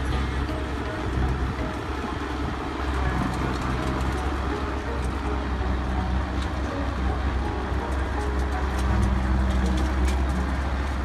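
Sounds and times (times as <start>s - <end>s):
horse hooves on snowy road: 0.0s - 11.0s.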